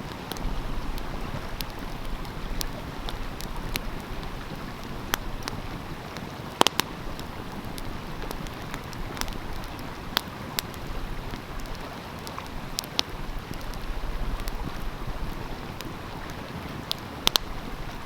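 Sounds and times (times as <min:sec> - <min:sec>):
stream flowing: 0:00.0 - 0:18.0
wood fire crackling and popping: 0:00.0 - 0:18.0.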